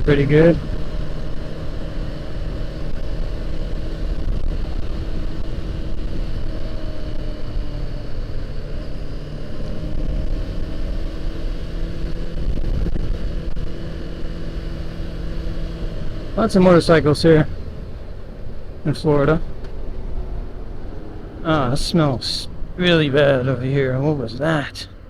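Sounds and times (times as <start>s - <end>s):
motorcycle engine running: 0.0s - 24.4s
wind and road noise: 0.0s - 25.0s.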